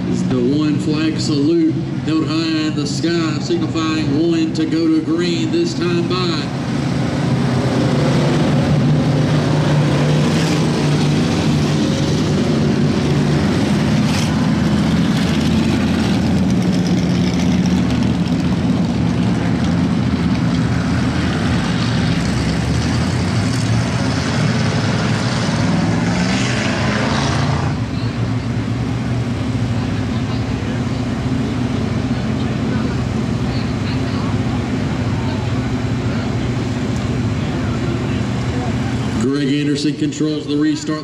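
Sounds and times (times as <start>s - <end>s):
race cars engine drone: 0.0s - 41.0s.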